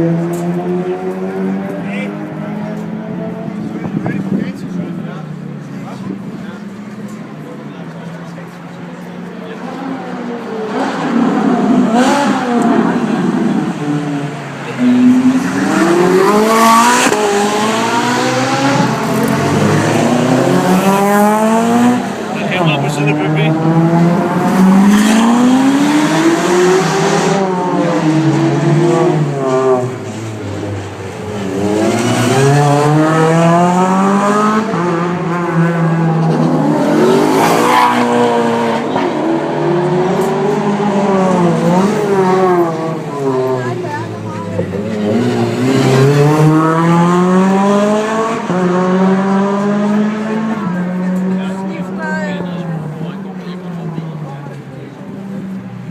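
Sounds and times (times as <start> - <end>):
car engine accelerating hard: 0.0 - 55.9.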